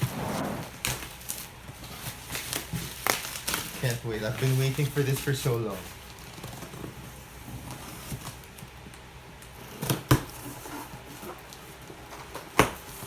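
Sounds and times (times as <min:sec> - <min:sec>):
packaging rustling and scraping: 0:00.0 - 0:08.8, 0:09.6 - 0:13.0.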